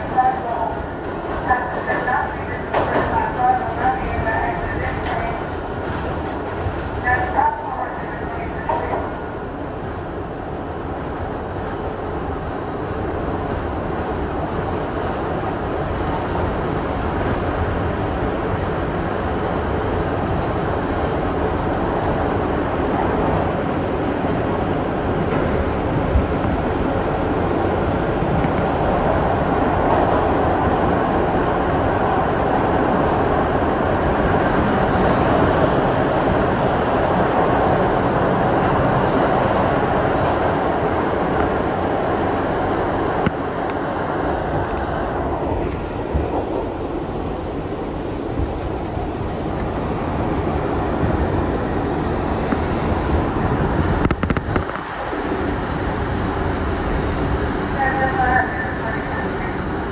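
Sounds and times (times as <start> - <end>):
subway train running: 0.0 - 59.9.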